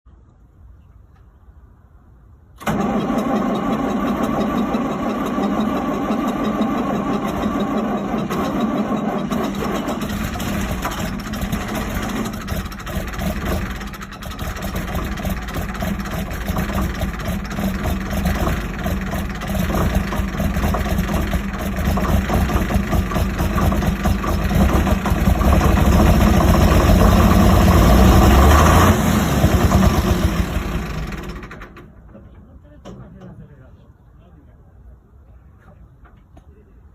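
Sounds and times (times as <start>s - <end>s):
tractor engine running: 2.6s - 32.3s.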